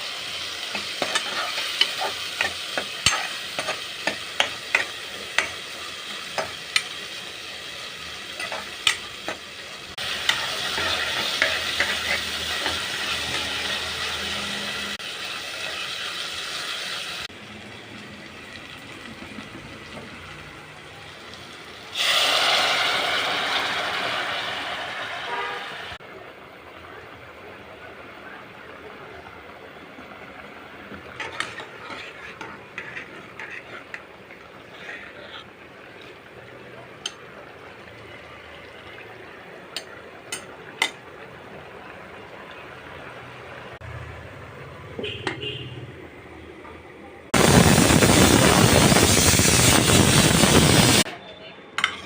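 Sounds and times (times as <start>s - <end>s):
oil sizzling in a pan: 0.0s - 26.0s, 26.9s - 44.1s, 47.4s - 51.1s.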